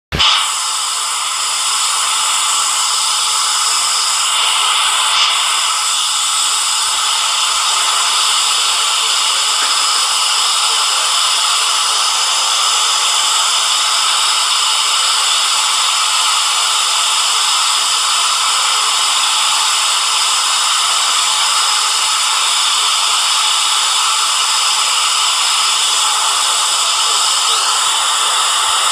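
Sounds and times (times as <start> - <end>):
loud static hiss: 0.1 - 28.9.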